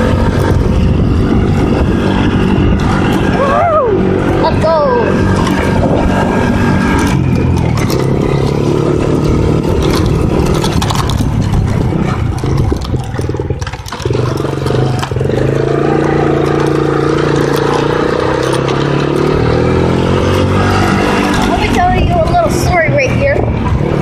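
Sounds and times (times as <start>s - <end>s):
atv engine running: 0.0s - 24.0s
scattered rattles and clicks: 0.0s - 24.0s.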